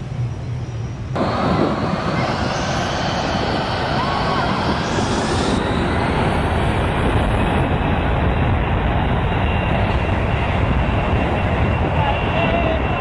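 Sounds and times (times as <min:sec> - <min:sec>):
jet engines roaring: 0:00.0 - 0:13.0
wind gusting over microphone: 0:00.0 - 0:13.0.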